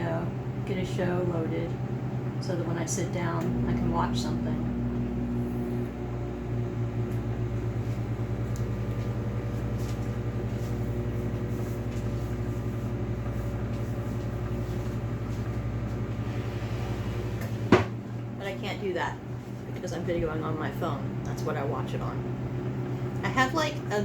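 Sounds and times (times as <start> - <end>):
microwave oven humming and pulsing: 0.0 - 24.0.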